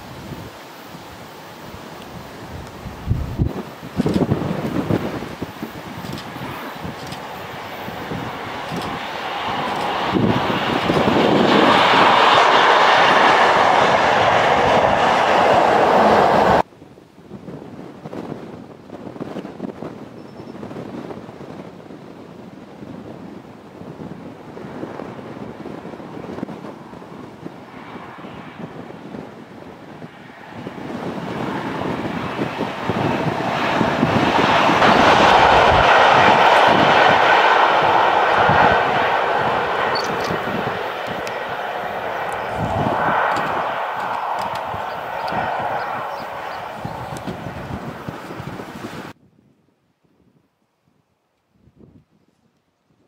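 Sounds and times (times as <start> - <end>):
train passing close by: 0.0 - 16.7, 22.7 - 49.2
faint wind: 0.0 - 53.0.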